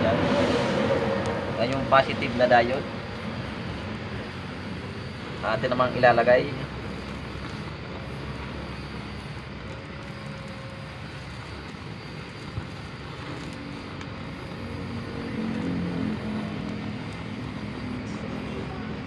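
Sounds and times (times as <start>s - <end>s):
blowtorch burning: 0.0s - 19.0s
low hum: 0.0s - 19.0s.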